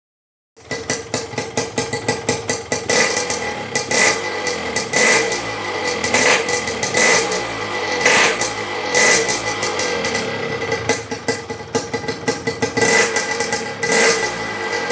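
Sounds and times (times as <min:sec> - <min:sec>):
motorcycle engine revving: 0:00.6 - 0:14.9.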